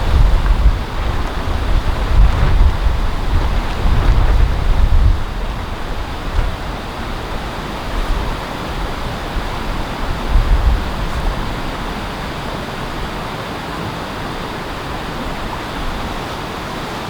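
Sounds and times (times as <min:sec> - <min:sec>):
mountain stream rushing: 0:00.0 - 0:17.0
wind buffeting microphone: 0:00.0 - 0:17.0.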